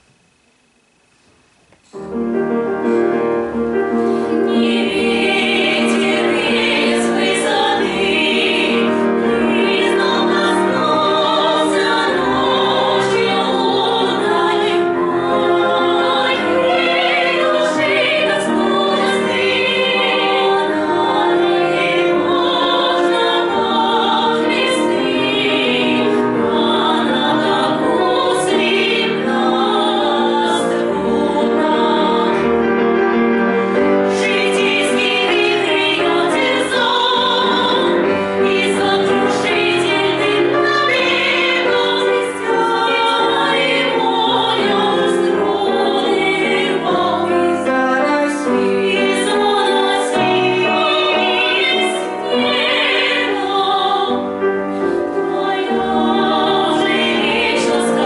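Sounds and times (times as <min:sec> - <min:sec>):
piano accompaniment: 0:01.8 - 0:58.0
female choir singing in harmony: 0:01.9 - 0:58.0.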